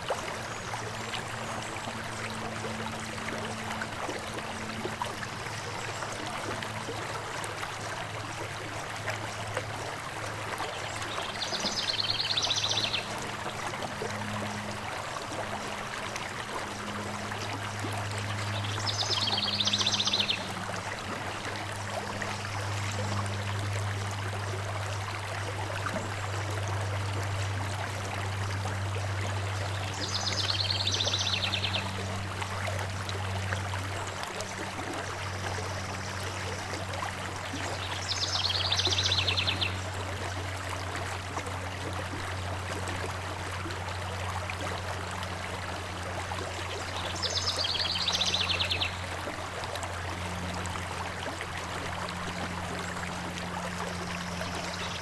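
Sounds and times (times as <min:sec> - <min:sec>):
constant low hum: 0:00.0 - 0:55.0
stream flowing: 0:00.0 - 0:55.0.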